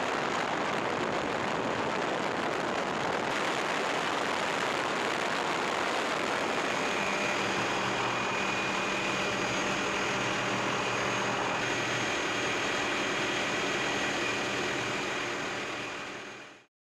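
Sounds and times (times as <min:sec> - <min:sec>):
helicopter turbine and rotor drone: 0:00.0 - 0:16.7.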